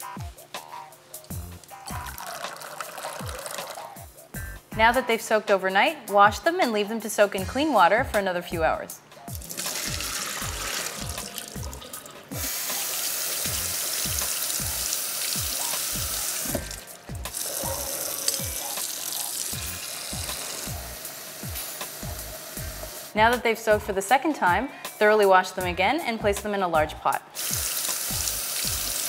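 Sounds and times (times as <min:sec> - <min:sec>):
background music with steady beat: 0:00.0 - 0:29.0.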